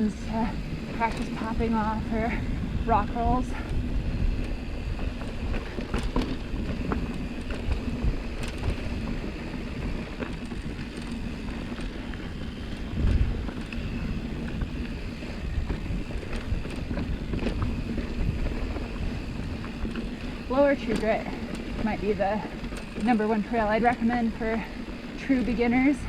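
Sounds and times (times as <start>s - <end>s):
bike clicks and rattles: 0.0s - 26.0s
bike tyre and wind noise: 0.0s - 26.0s.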